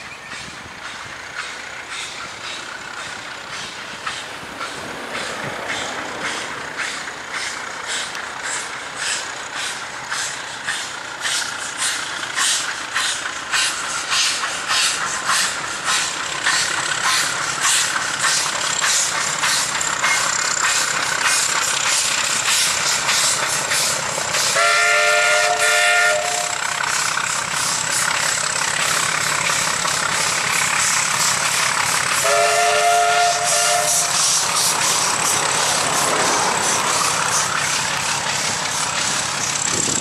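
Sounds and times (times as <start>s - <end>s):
steady steam hiss: 0.0s - 40.0s
steam locomotive chuffing: 0.0s - 40.0s.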